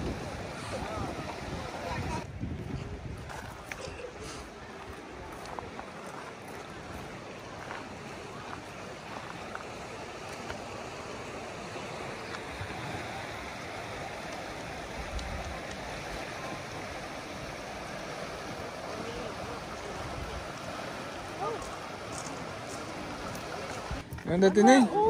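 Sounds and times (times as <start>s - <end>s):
rushing river water: 0.0s - 25.0s.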